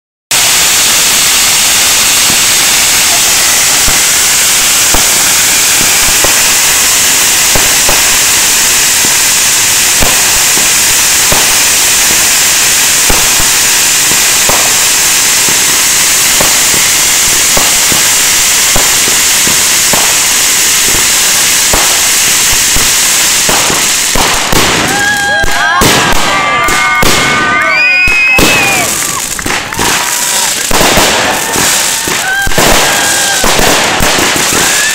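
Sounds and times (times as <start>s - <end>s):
firework fountain hissing: 0.3s - 34.9s
firework pops and cracks: 0.3s - 34.9s.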